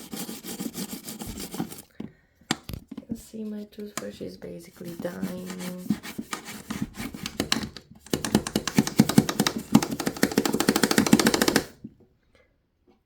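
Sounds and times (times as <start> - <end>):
toothbrush scrubbing plastic: 0.0 - 1.9, 3.1 - 11.7.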